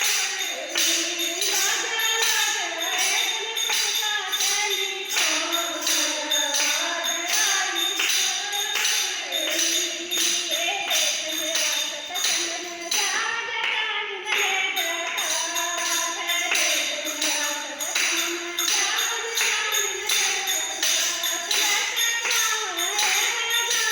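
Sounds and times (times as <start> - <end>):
jingling hand percussion: 0.0 - 23.9
woman singing devotional song: 0.0 - 23.9.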